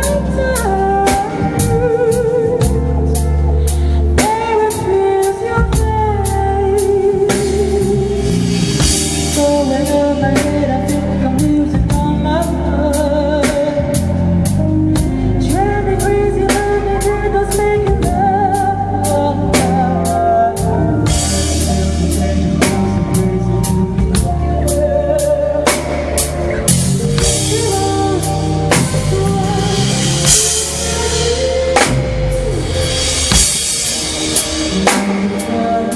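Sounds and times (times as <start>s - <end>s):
band music: 0.0s - 35.9s
drum kit beat: 0.0s - 35.9s
person singing: 0.0s - 35.9s.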